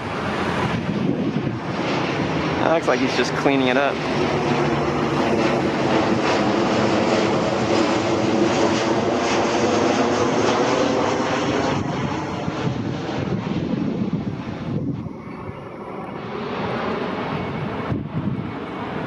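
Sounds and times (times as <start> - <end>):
airplane engine drone overhead: 0.0 - 19.0.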